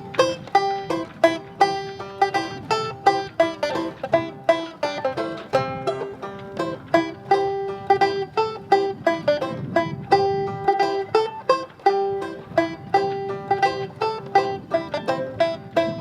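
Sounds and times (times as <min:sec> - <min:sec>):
banjo picked tune: 0:00.0 - 0:16.0.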